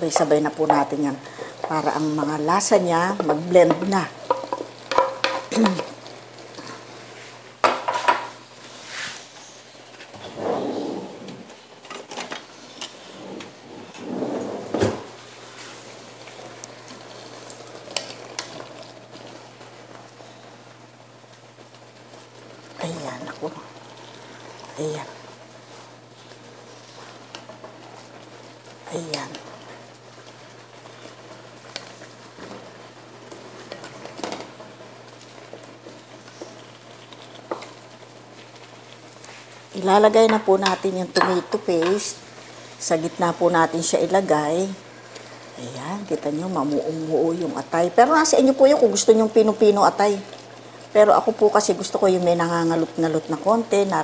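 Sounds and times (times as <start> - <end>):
sauce sizzling and simmering: 0.0 - 10.3, 11.4 - 14.0, 14.8 - 54.0.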